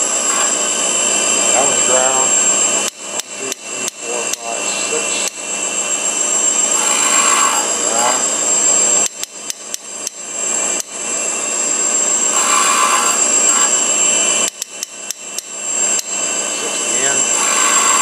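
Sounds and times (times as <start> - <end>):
grinder whining hiss: 0.0 - 18.0.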